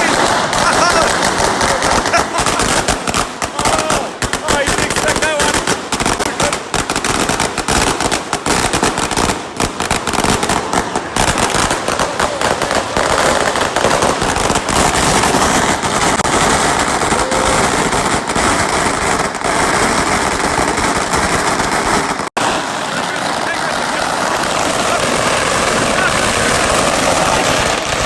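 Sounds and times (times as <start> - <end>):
firecrackers banging and crackling: 0.0 - 28.0.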